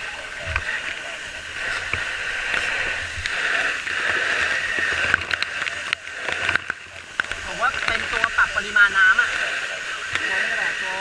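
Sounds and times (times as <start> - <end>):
hose nozzle spraying water: 0.0 - 11.0.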